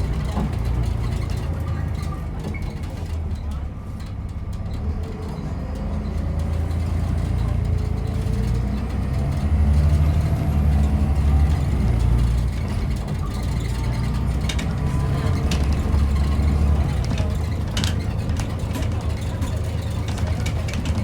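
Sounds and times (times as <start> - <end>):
bus diesel engine rumbling: 0.0 - 21.0.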